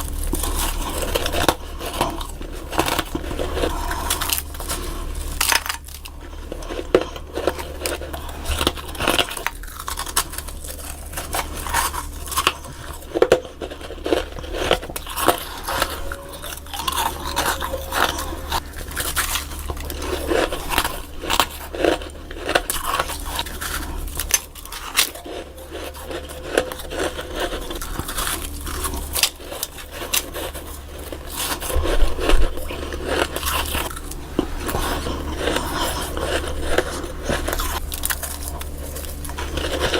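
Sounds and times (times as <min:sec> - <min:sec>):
chewing frost crunches: 0:00.0 - 0:39.9.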